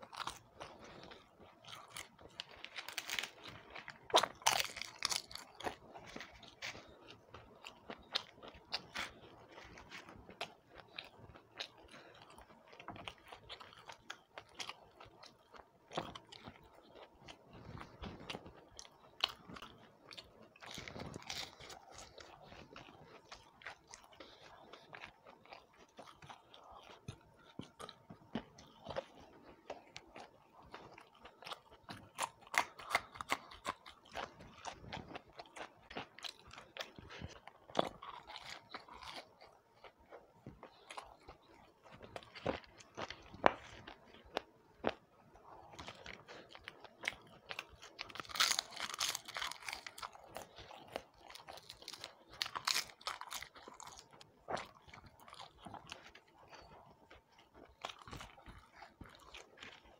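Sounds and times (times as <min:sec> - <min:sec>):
chewing and crunching fried food: 0:00.0 - 0:59.9.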